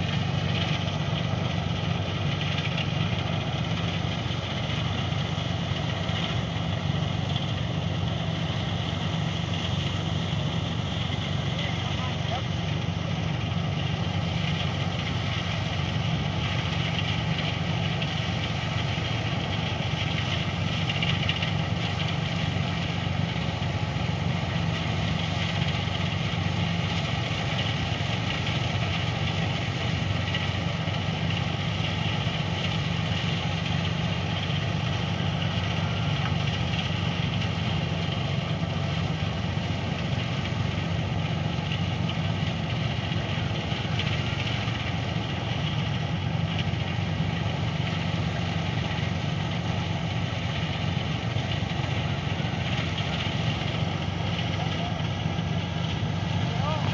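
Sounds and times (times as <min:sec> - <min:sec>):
machine engine running: 0:00.0 - 0:56.9.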